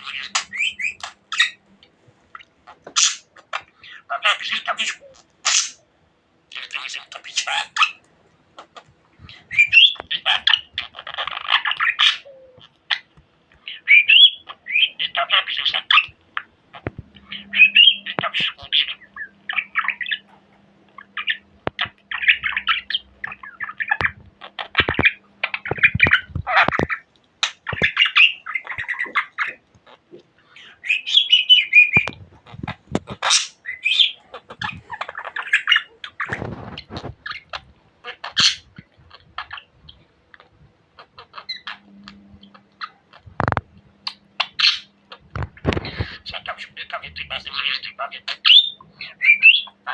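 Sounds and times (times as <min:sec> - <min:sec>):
budgerigar chattering and warbling: 0:00.0 - 0:01.6, 0:02.7 - 0:05.8, 0:06.5 - 0:08.0, 0:08.6 - 0:13.1, 0:13.7 - 0:20.3, 0:20.9 - 0:49.9.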